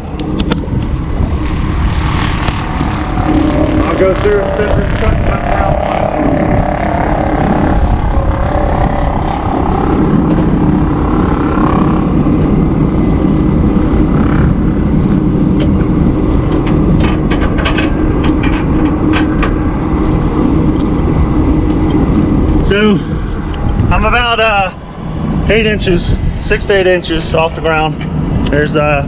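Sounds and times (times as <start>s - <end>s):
diesel engine running: 1.9s - 25.7s.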